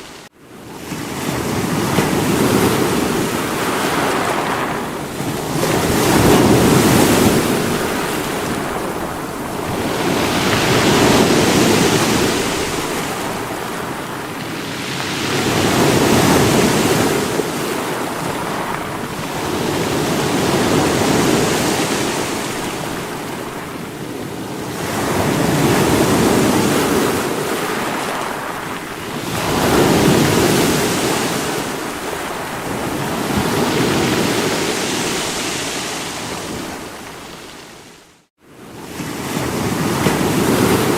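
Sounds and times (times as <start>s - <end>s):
sea waves breaking on rocks: 0.8s - 38.0s, 38.8s - 40.9s.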